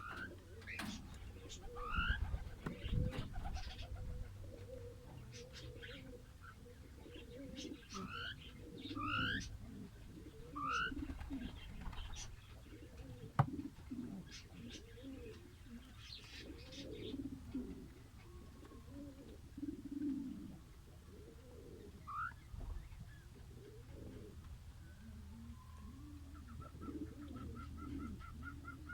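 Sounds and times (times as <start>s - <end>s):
birds cooing: 0.0s - 28.9s.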